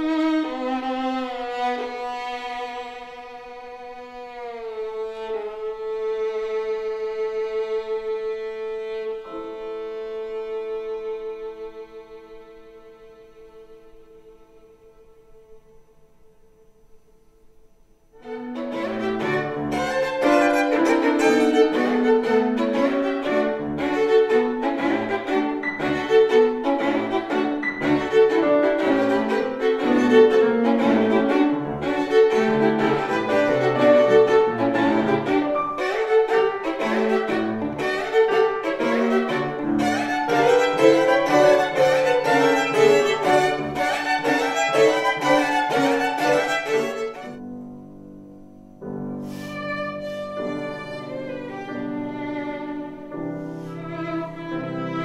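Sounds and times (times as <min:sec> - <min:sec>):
solo violin: 0:00.0 - 0:47.8, 0:48.8 - 0:55.0
piano accompaniment: 0:00.0 - 0:55.0.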